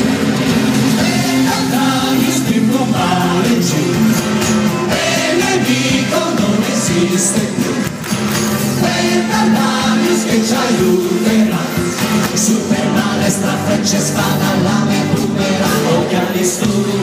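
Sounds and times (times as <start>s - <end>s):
rock band playing live: 0.0s - 17.0s
person singing: 1.0s - 7.8s, 8.8s - 17.0s.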